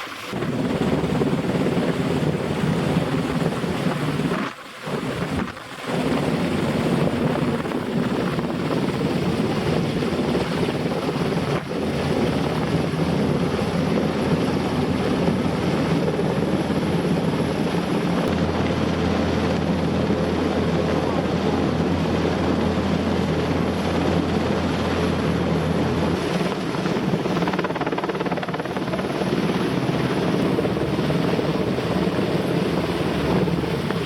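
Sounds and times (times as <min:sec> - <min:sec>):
helicopter rotor and turbine: 0:00.0 - 0:34.0.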